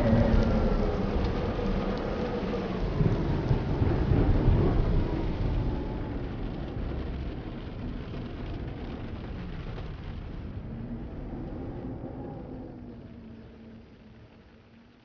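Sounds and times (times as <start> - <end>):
rain hiss: 0.0 - 15.0
thunder rumble: 0.0 - 15.0
wind: 0.0 - 15.0.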